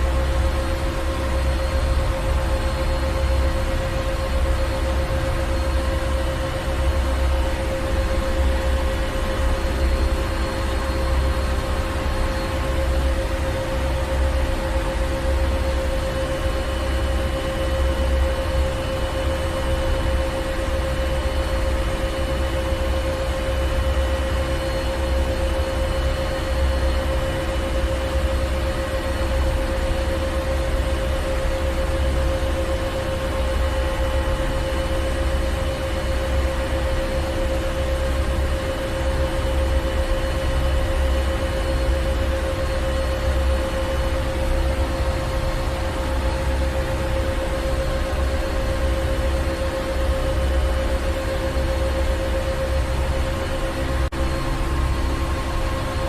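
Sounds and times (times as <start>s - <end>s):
engine room machinery running: 0.0s - 56.0s.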